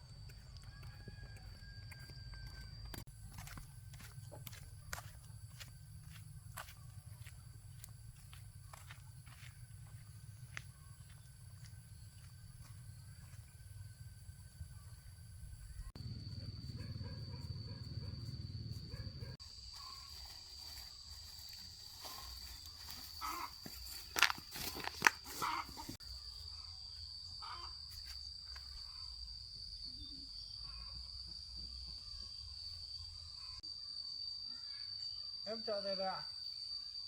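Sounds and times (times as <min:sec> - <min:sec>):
insect buzz: 0:03.1 - 0:37.0.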